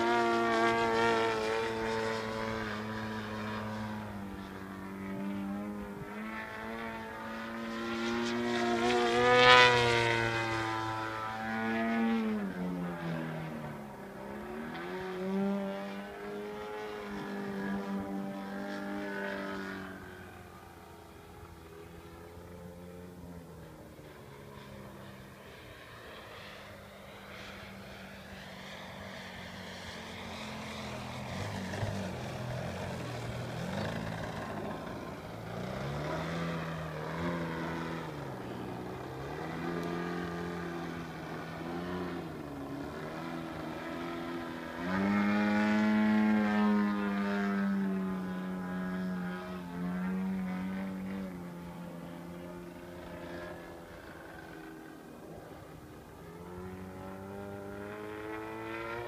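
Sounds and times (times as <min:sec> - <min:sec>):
model plane engine: 0:00.0 - 0:59.0.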